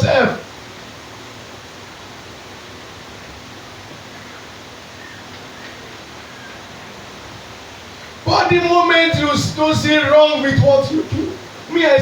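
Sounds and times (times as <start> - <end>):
background hiss: 0.0 - 12.0
faint low hum: 0.0 - 12.0.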